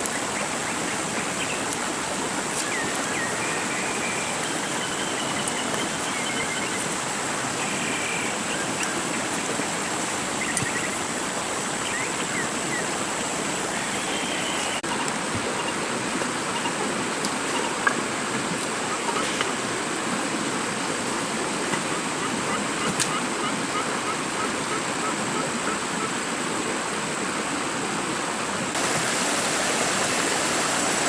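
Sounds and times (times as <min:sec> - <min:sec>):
running water rushing: 0:00.0 - 0:31.0.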